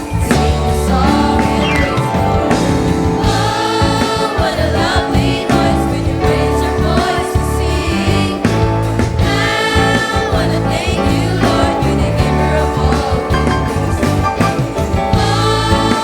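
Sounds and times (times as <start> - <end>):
children's choir singing: 0.0 - 16.0
instrumental accompaniment: 0.0 - 16.0.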